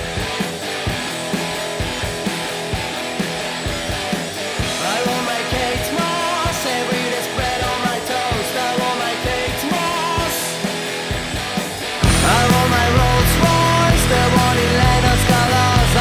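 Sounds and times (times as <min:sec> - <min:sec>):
drum beat: 0:00.0 - 0:16.0
rock band playing: 0:00.0 - 0:16.0.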